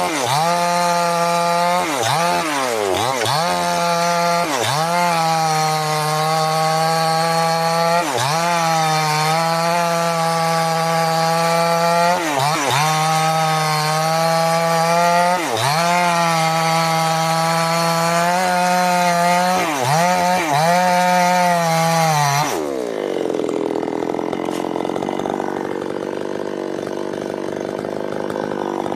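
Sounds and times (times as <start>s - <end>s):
chainsaw cutting wood: 0.0s - 28.9s
chainsaw idling: 0.0s - 28.9s.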